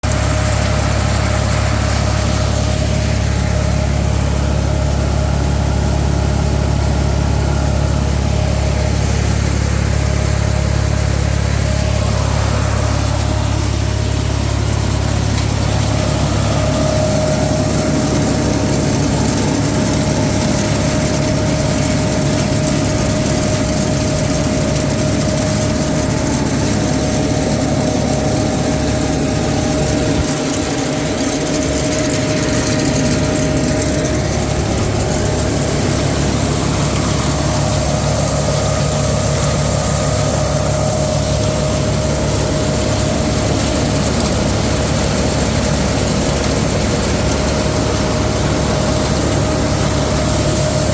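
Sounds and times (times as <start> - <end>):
engine drone: 0.0 - 50.9
machine whine: 0.0 - 50.9.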